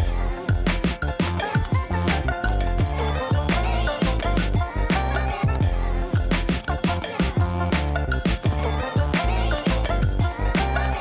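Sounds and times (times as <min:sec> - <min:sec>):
hip-hop music with deep bass: 0:00.0 - 0:11.0.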